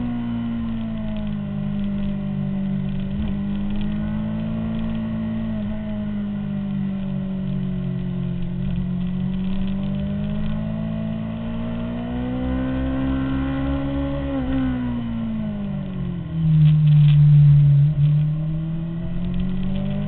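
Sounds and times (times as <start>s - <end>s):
motorcycle engine at speed: 0.0s - 20.0s.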